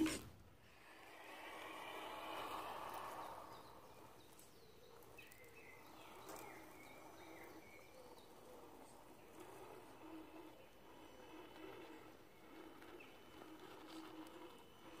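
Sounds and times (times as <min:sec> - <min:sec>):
faint woodland ambience: 0:00.0 - 0:15.0.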